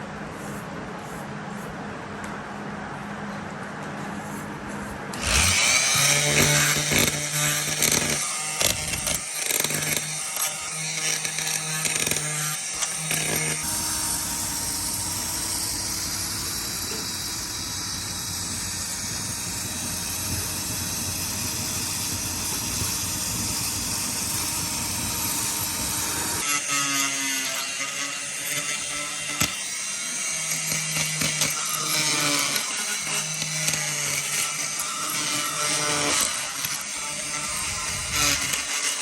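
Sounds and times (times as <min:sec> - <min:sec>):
power sander on metal: 0:04.2 - 0:39.0.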